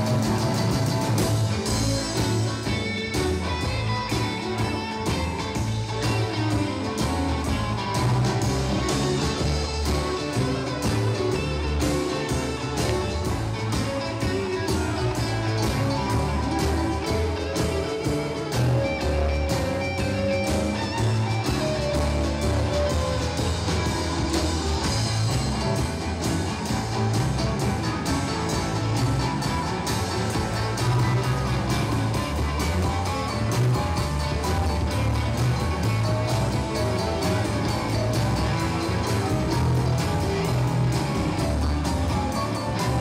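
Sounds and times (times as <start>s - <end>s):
electric guitar: 0.0s - 43.0s
live blues band playing: 0.0s - 43.0s.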